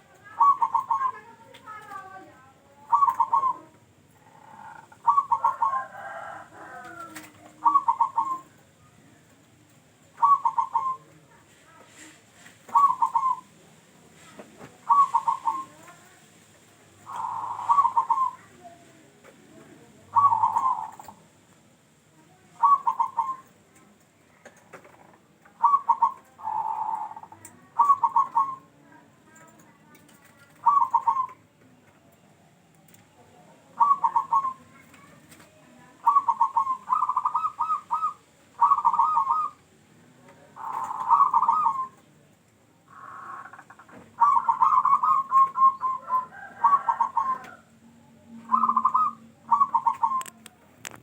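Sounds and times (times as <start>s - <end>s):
dove cooing: 0.0s - 9.1s, 10.0s - 21.3s, 22.3s - 23.8s, 24.4s - 31.6s, 33.4s - 42.2s, 42.9s - 51.0s.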